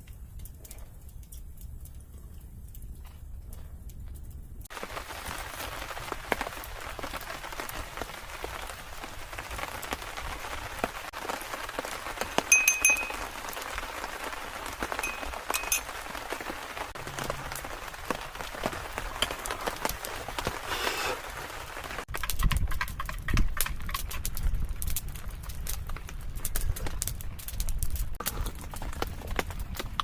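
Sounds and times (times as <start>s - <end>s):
rain falling: 0.0s - 30.0s
raindrops ticking on surfaces: 0.0s - 30.0s.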